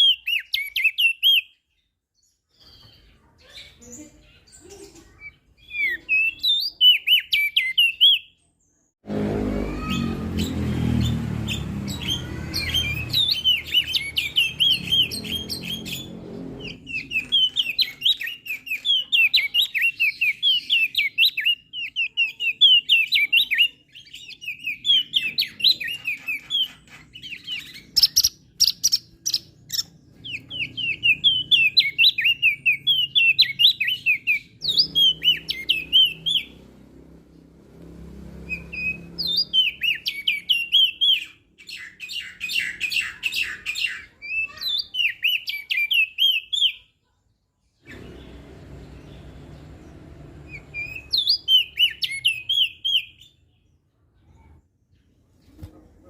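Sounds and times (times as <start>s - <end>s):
bird rapid high chirping: 0.0s - 8.9s, 9.6s - 37.6s, 38.2s - 47.0s, 47.8s - 54.6s.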